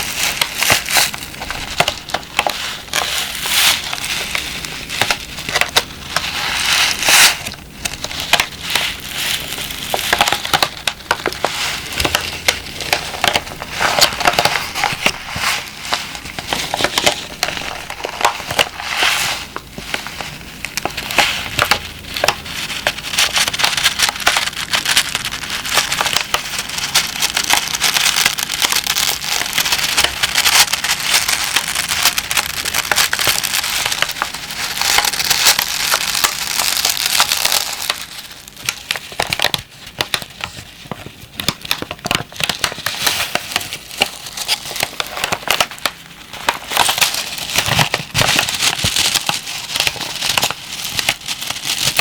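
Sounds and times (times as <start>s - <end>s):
plastic pack crinkling and crunching: 0.0s - 52.0s.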